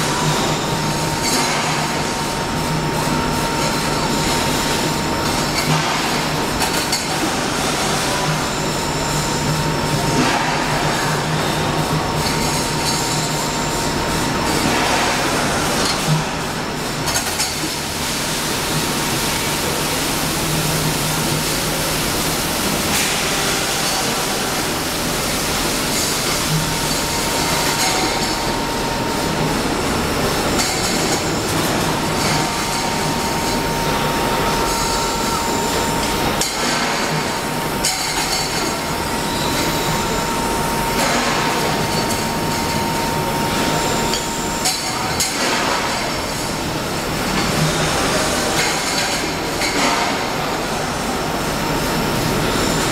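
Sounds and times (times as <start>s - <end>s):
pipe cutting machine running: 0.0s - 52.9s.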